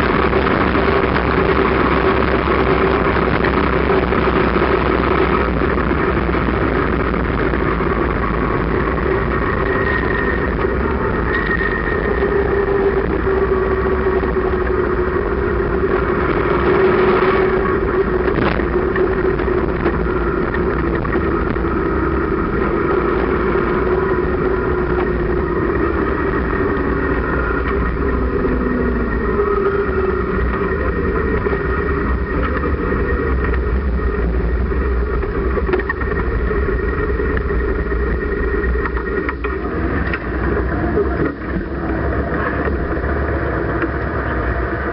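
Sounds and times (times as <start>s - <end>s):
motorcycle engine running: 0.0s - 44.9s
wind on microphone: 0.0s - 44.9s.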